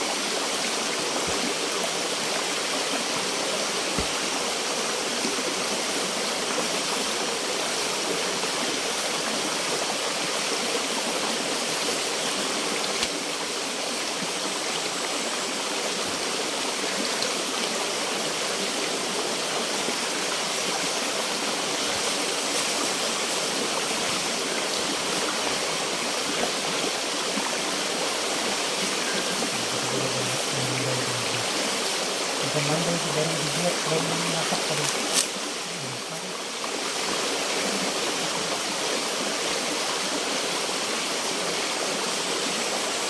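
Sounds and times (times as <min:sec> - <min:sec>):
flowing river rushing: 0:00.0 - 0:43.0.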